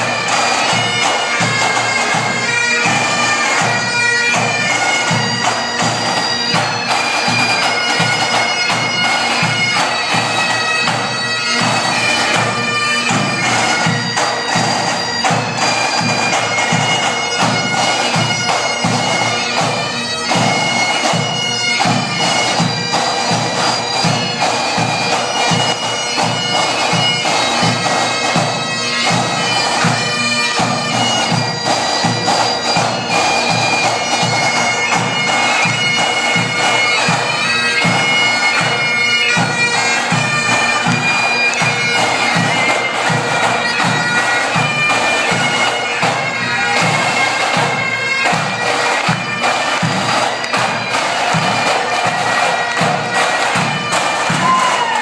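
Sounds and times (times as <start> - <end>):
bagpipes playing melody: 0.0 - 55.0
snare drums beating: 0.0 - 55.0.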